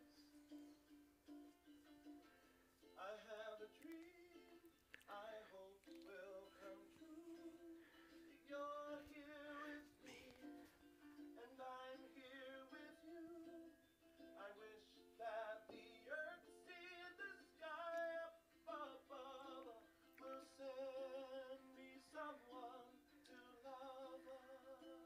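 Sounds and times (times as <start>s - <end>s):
plucked string accompaniment: 0.0s - 25.0s
person singing with vibrato: 3.0s - 25.0s.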